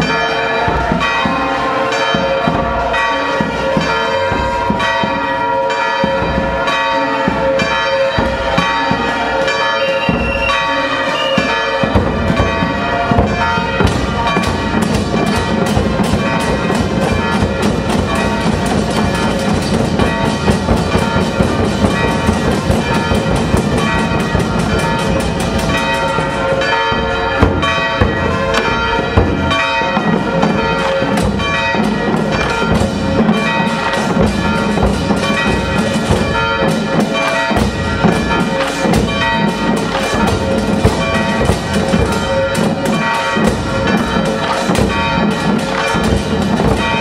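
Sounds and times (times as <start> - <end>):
church bells ringing: 0.0 - 47.0
marching drums beating: 0.0 - 47.0.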